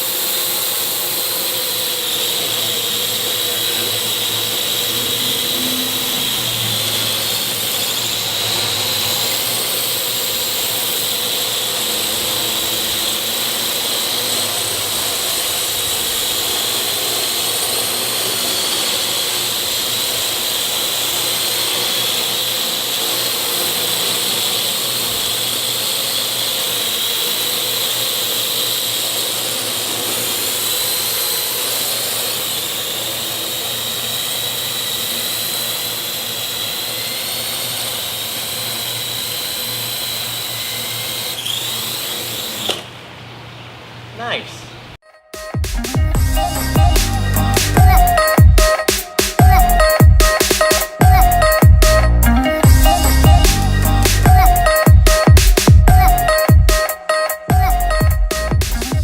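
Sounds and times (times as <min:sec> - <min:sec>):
drone propellers whining: 0:00.0 - 0:43.3, 0:45.4 - 0:59.0.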